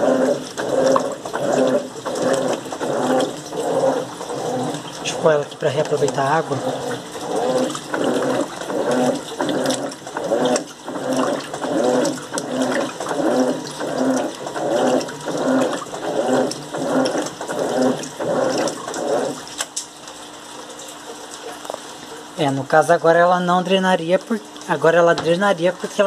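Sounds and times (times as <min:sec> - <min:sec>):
washing machine churning: 0:00.0 - 0:26.0.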